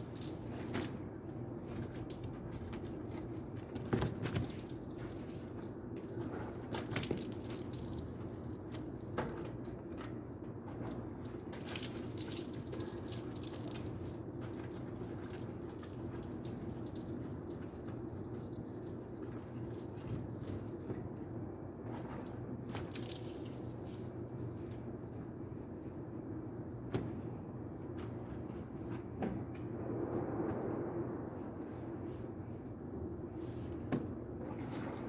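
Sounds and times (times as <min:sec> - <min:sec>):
water dripping and splashing: 0:00.0 - 0:29.6.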